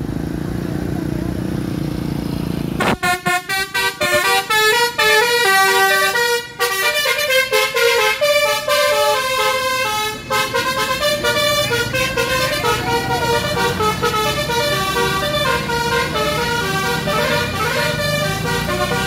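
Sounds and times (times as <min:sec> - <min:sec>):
bus melody horn playing a tune: 0:02.8 - 0:19.0.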